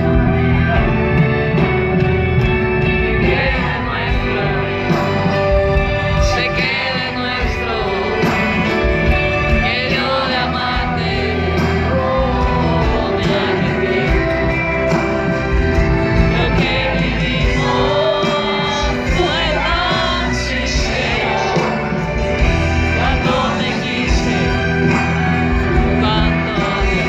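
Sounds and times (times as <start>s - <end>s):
live band playing pop ballad: 0.0s - 27.0s
man singing: 3.2s - 15.3s, 16.0s - 27.0s.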